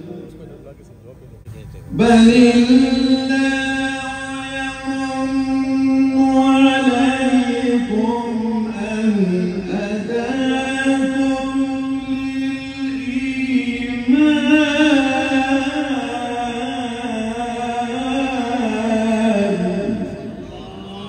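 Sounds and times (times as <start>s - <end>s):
man chanting into a microphone: 1.6s - 21.0s.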